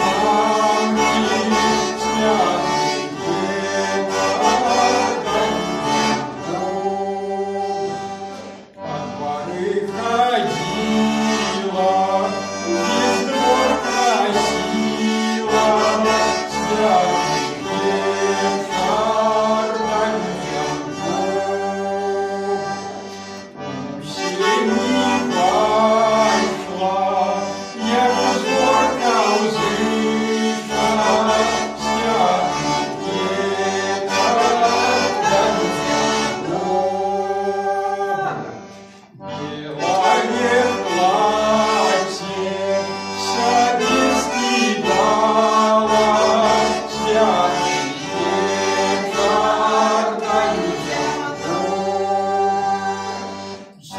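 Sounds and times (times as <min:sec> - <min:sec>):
button accordion playing carol: 0:00.0 - 0:53.9.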